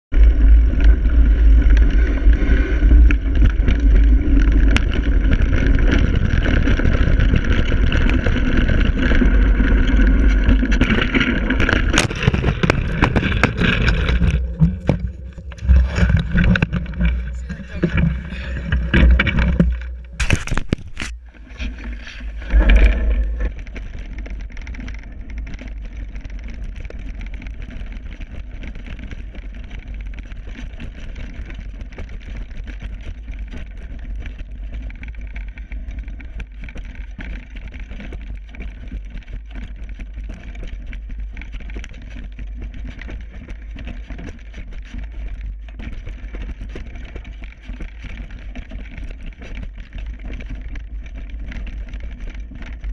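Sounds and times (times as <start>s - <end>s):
bike rattling and knocking: 0.1s - 52.9s
bike tyres rumbling over gravel: 0.1s - 52.9s.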